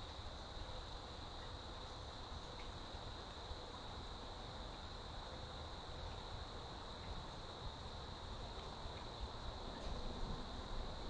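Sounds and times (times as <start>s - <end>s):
constant high-pitched buzz: 0.0s - 11.0s
low rumble and hiss: 0.0s - 11.0s.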